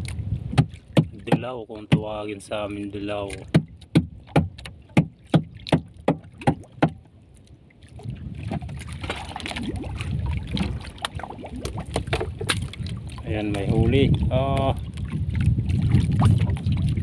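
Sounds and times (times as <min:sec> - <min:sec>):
line hauled over boat edge: 0:00.0 - 0:16.4
water rushing and splashing: 0:00.0 - 0:17.0.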